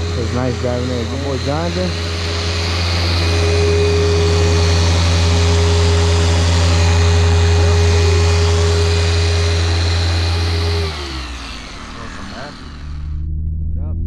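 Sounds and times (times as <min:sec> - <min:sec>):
car engine droning steadily: 0:00.0 - 0:13.9.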